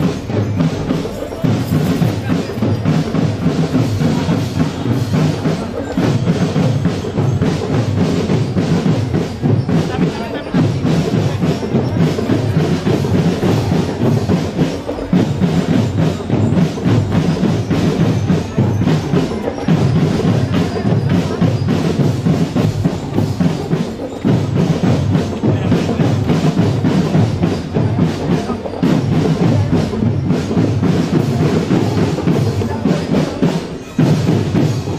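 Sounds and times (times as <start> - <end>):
bass drums: 0.0 - 34.9
snare and tenor drums: 0.0 - 34.9.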